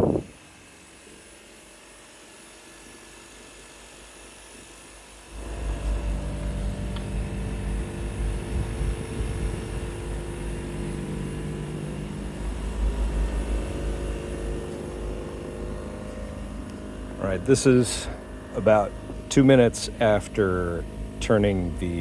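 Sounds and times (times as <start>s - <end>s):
heat pump compressor and fan hum: 0.0s - 22.0s.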